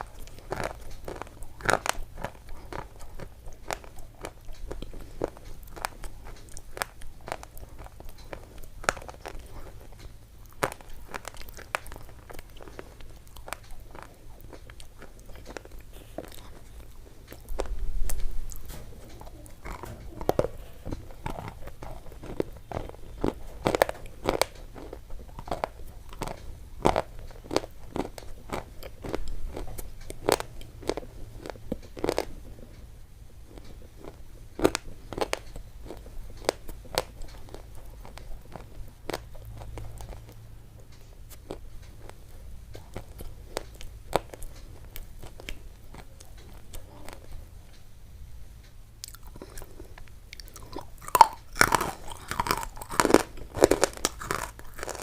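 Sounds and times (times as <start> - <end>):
crisp crunching and clicks: 0.0 - 47.9, 48.6 - 55.0
faint low hum: 0.0 - 55.0.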